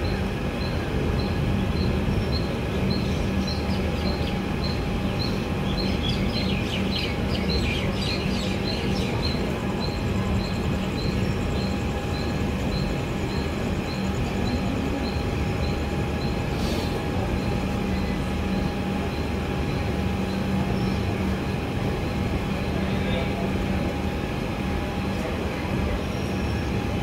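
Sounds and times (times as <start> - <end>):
passenger train running noise: 0.0 - 27.0.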